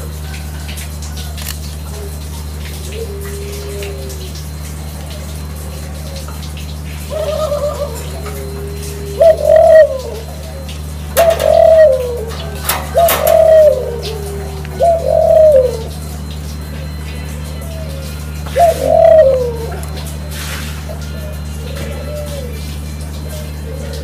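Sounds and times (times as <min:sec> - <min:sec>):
doves cooing: 0:00.0 - 0:24.0
steady low hum: 0:00.0 - 0:24.0.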